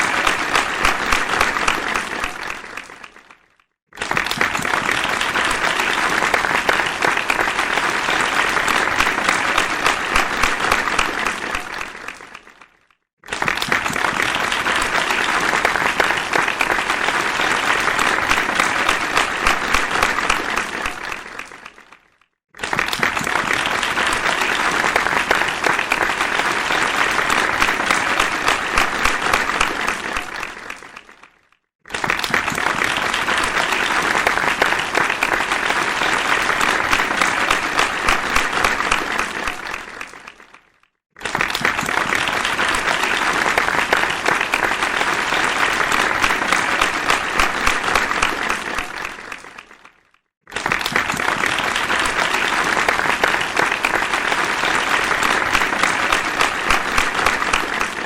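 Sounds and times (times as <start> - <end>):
crowd applause: 0.0 - 58.0.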